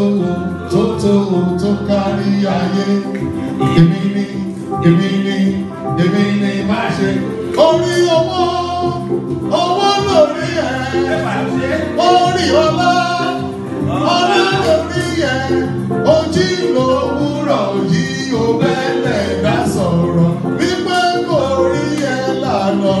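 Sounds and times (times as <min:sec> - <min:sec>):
band music with bass line: 0:00.0 - 0:23.0
person singing: 0:00.0 - 0:23.0.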